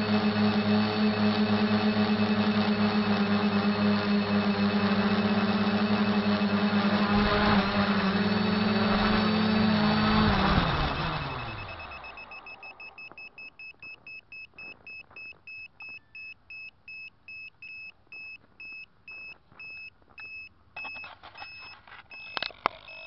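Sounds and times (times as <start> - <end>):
high-pitched electronic beeps: 0.0 - 16.3, 19.1 - 23.0.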